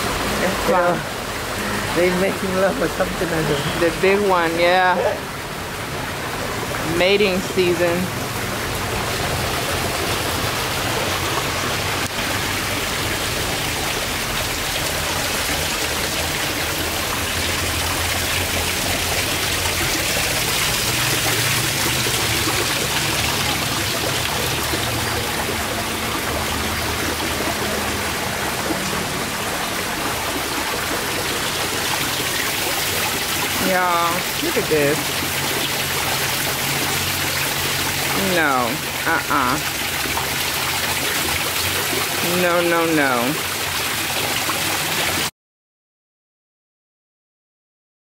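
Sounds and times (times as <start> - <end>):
waterfall splashing into pool: 0.0 - 45.3.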